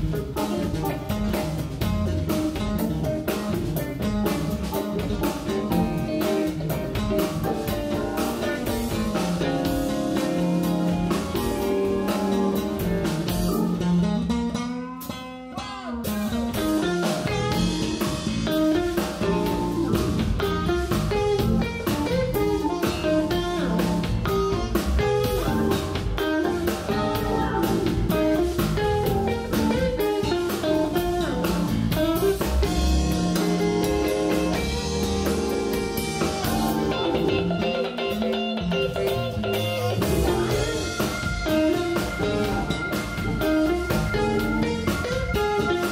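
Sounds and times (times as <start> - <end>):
drum beat: 0.0 - 14.2, 16.1 - 45.9
electric guitar: 0.0 - 45.9
live soul-jazz band: 0.0 - 45.9.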